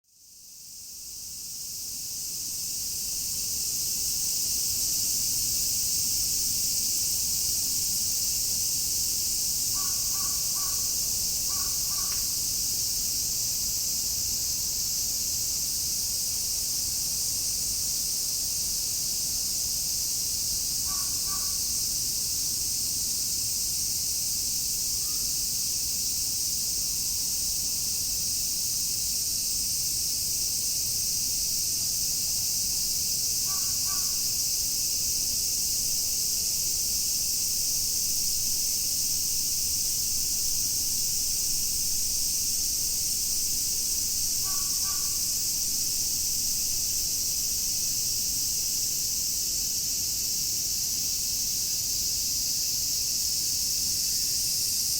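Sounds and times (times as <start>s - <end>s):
cicadas shrilling: 0.4s - 54.9s.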